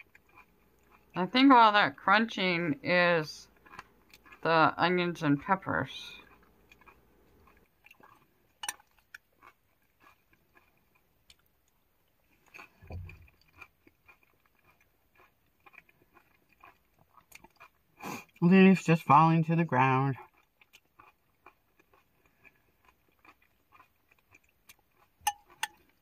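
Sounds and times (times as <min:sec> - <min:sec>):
chewing and crunching: 0:00.0 - 0:26.0.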